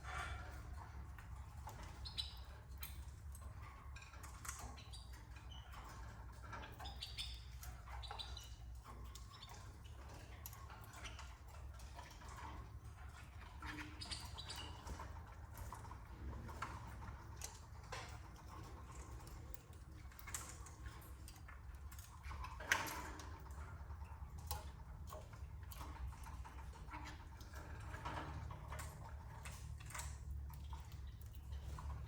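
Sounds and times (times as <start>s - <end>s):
birds ticking and clicking in cage: 0.0s - 32.0s.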